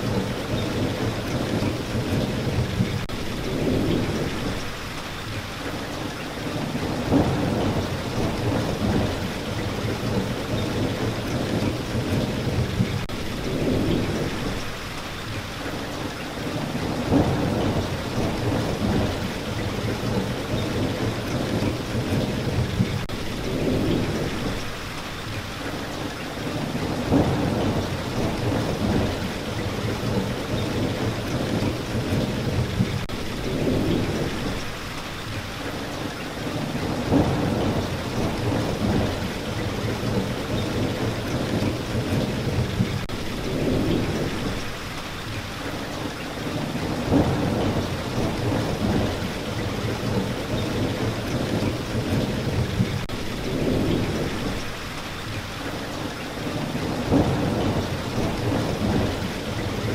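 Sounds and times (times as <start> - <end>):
thunder rumbling: 0.0 - 4.8, 6.4 - 14.8, 16.4 - 25.0, 26.4 - 34.9, 36.4 - 45.3, 46.4 - 55.3, 56.0 - 59.9
steady rain: 0.0 - 59.9.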